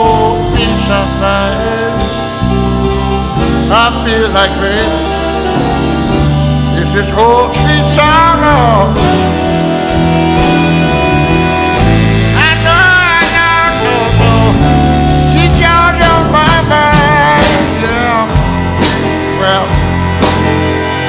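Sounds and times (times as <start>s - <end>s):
person singing: 0.0s - 21.0s
steady drum beat: 0.0s - 21.0s.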